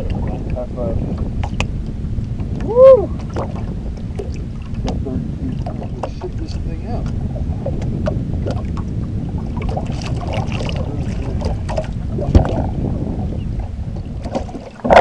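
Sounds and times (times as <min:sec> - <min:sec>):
boat motor rumble: 0:00.0 - 0:15.0
wind on microphone: 0:00.0 - 0:15.0.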